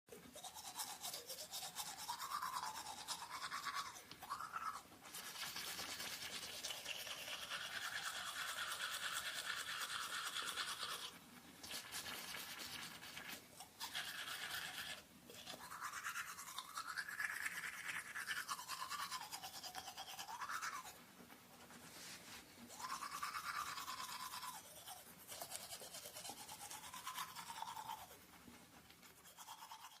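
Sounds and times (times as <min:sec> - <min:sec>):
toothbrush scrubbing teeth: 0:00.1 - 0:30.0.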